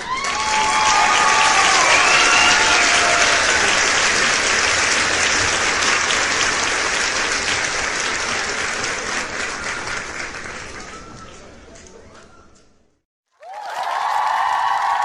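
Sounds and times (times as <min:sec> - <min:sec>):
crowd applauding: 0:00.0 - 0:11.8, 0:13.4 - 0:15.0.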